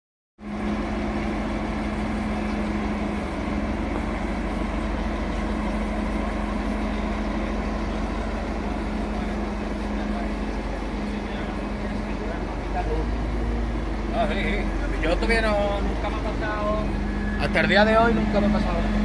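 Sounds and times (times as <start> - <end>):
heavy engine idling: 0.4 - 19.0.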